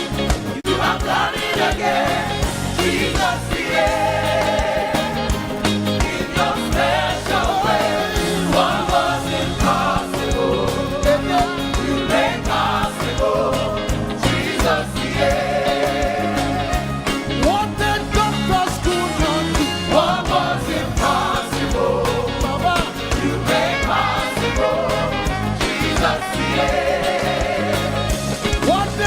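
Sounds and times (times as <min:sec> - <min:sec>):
congregation and choir singing: 0:00.0 - 0:17.6, 0:18.5 - 0:29.0
band with drums and keyboard: 0:00.0 - 0:29.0.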